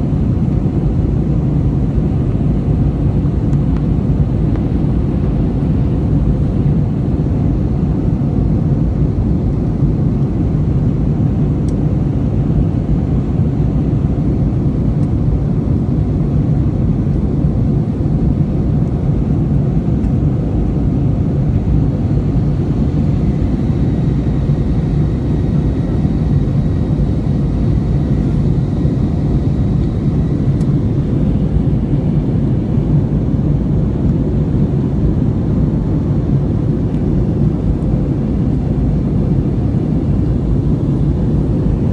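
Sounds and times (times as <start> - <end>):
airliner cabin rumble: 0.0 - 41.9.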